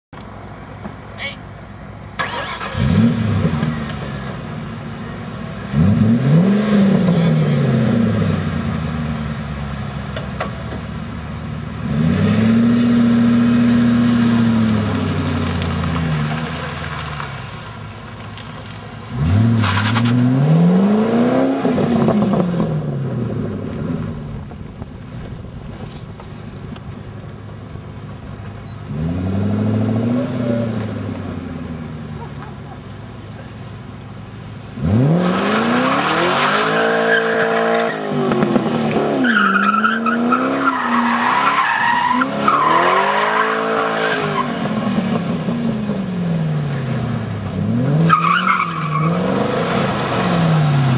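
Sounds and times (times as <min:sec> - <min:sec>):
car engine revving: 0:02.2 - 0:50.9.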